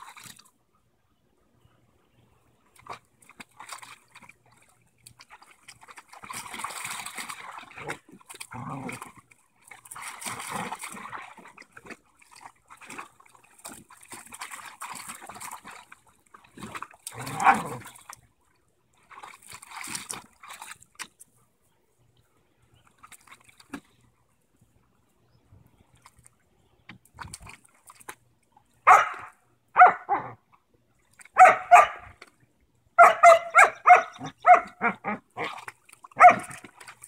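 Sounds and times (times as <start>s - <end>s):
dogs splashing in water: 0.0s - 0.6s, 2.6s - 21.4s, 22.8s - 24.1s, 25.8s - 37.0s.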